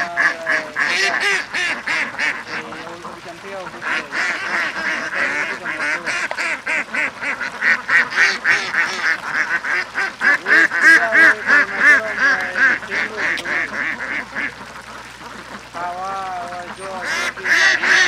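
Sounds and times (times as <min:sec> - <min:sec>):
flock of birds harsh calls: 0:00.0 - 0:18.0.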